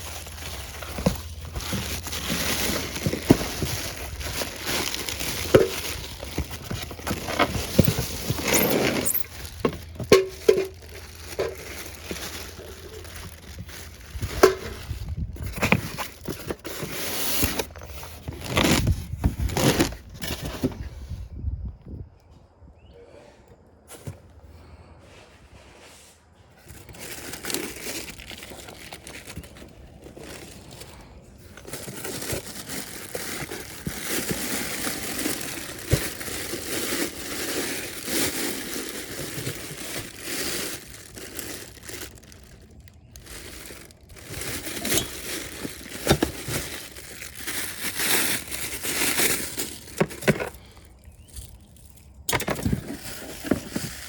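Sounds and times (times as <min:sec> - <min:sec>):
crinkling and rustling: 0:00.0 - 0:21.9, 0:26.2 - 0:54.0.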